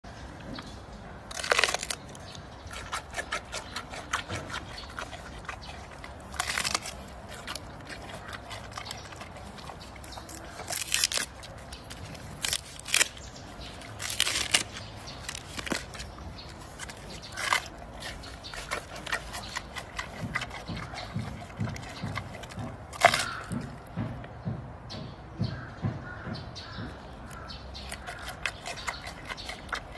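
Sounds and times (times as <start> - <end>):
panda chewing bamboo: 1.2 - 24.1, 27.4 - 29.9.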